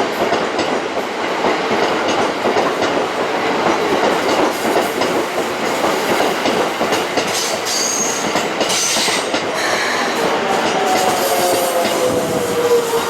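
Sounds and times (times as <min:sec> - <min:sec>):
train rumbling on track: 0:00.0 - 0:13.0
train wheels clattering: 0:00.0 - 0:13.0.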